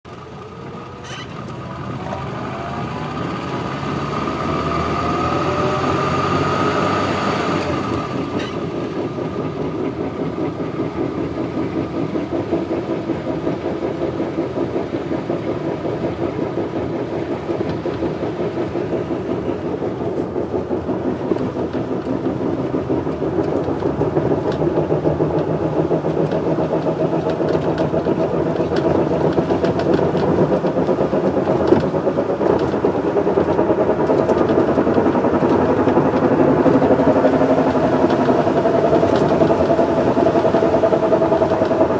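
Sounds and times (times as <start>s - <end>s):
car engine knocking and whining: 0.0s - 41.9s.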